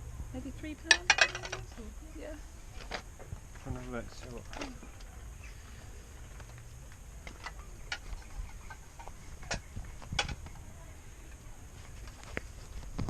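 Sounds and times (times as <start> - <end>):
faint background rumble: 0.0 - 13.0.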